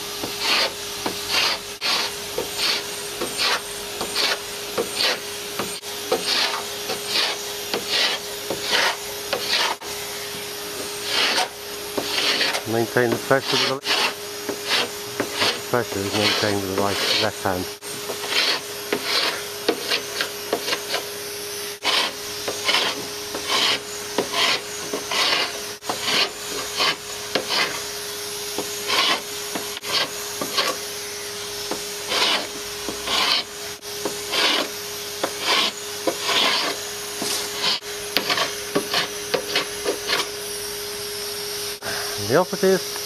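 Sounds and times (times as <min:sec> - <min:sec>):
vacuum cleaner humming: 0:00.0 - 0:43.0
scraper rasping paint off hull: 0:00.2 - 0:09.8, 0:10.8 - 0:21.1, 0:21.8 - 0:27.9, 0:28.6 - 0:30.8, 0:31.7 - 0:40.3.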